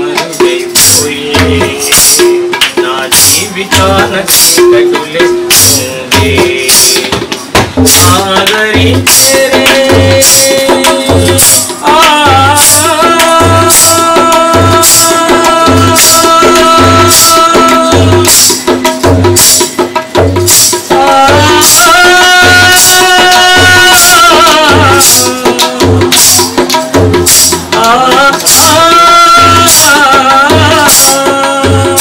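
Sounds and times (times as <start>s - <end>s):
man singing: 0.0s - 19.6s, 20.5s - 32.0s
tabla drumming: 0.0s - 32.0s.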